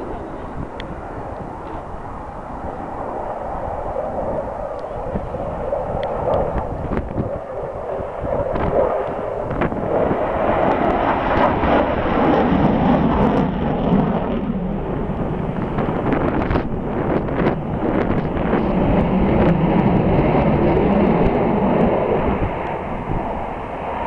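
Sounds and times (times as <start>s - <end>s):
fighter jet rumbling: 0.0s - 24.0s.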